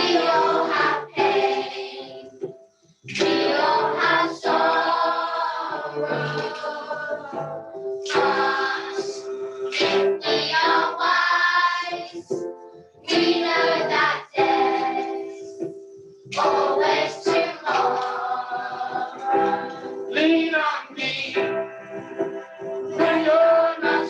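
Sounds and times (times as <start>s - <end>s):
children singing as a choir: 0.0s - 2.5s, 3.2s - 12.4s, 13.0s - 15.6s, 16.3s - 20.6s, 22.8s - 24.0s.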